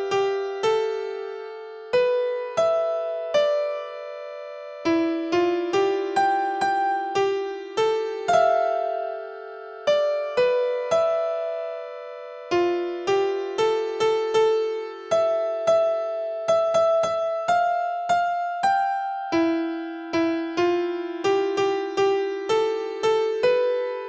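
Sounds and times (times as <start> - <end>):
soft electric piano melody: 0.0 - 24.0.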